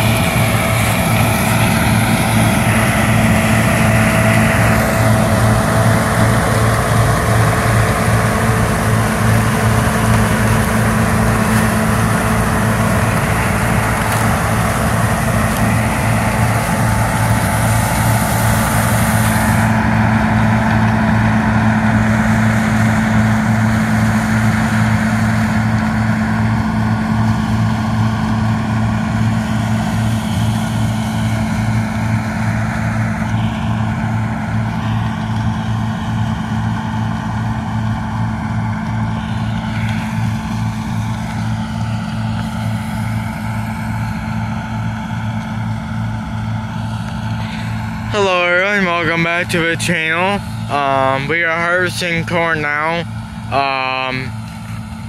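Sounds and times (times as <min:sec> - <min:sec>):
combine threshing noise: 0:00.0 - 0:55.0
deep diesel engine hum: 0:00.0 - 0:55.0
faint higher whine: 0:00.0 - 0:55.0.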